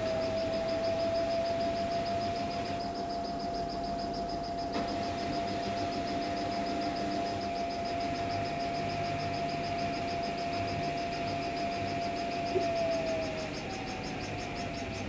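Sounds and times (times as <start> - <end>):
faint fast ticking: 0.0 - 15.0
washing machine motor whine: 0.0 - 15.0.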